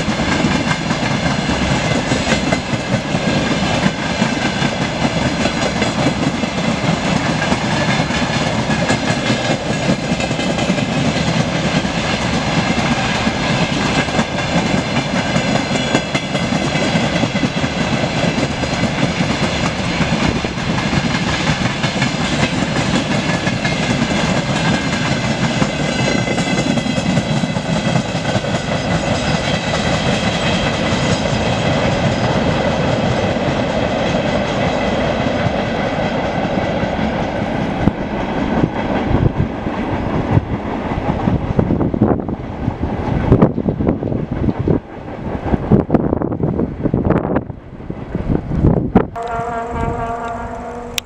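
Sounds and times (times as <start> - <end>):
train rumble and wheel clatter: 0.0 - 51.0.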